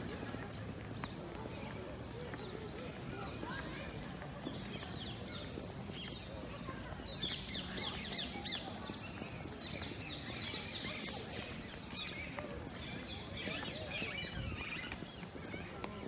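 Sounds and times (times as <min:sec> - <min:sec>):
crowd walking on pavement: 0:00.0 - 0:16.0.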